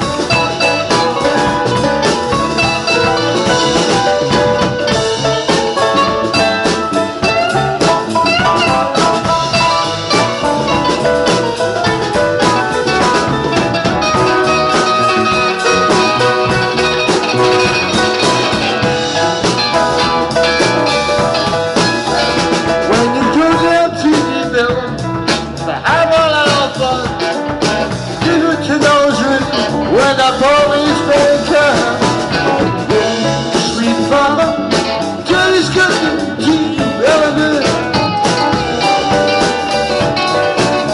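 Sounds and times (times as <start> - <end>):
drum kit: 0.0 - 40.9
electric bass: 0.0 - 40.9
electric guitars: 0.0 - 40.9
keyboard: 0.0 - 40.9.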